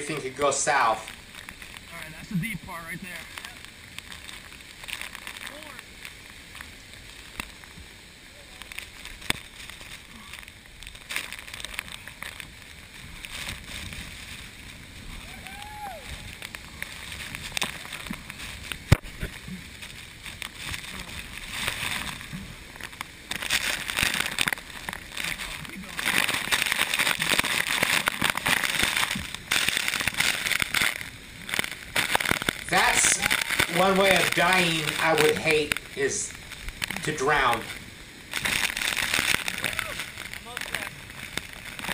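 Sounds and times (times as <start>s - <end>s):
rushing floodwater: 0.0s - 41.9s.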